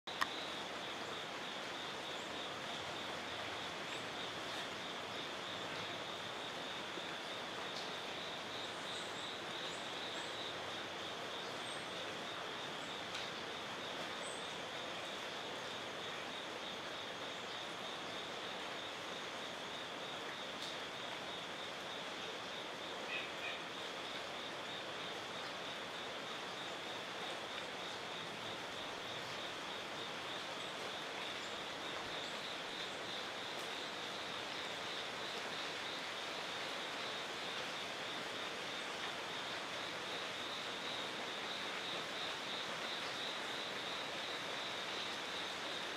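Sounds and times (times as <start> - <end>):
pulsing insect chorus: 0.1 - 45.9.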